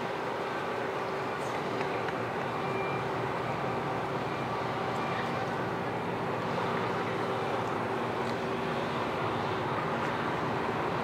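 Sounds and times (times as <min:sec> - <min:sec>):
ship engines droning: 0:00.0 - 0:11.0.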